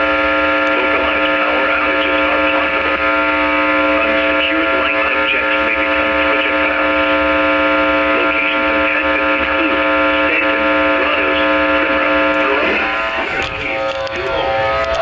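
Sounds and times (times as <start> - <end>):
faint broadcast voice: 0.0 - 15.0
radio interference buzzing whine: 0.0 - 15.0.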